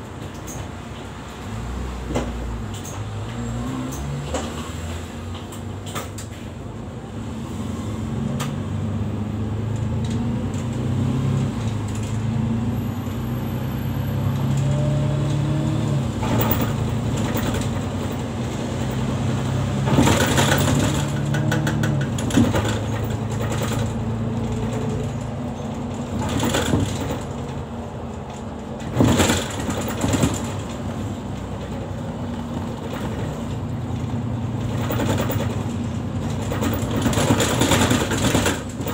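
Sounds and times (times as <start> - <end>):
bus body rattling: 0.0 - 7.2, 8.3 - 12.8, 13.5 - 38.9
bus engine whine: 0.0 - 38.9.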